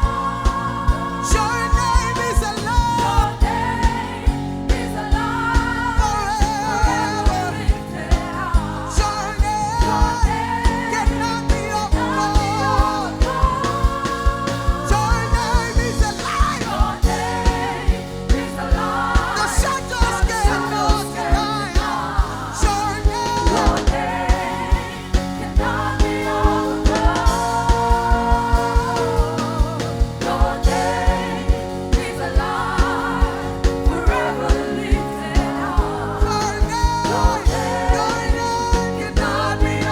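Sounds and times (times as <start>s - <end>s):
gospel band playing: 0.0s - 39.9s
people singing: 0.0s - 39.9s.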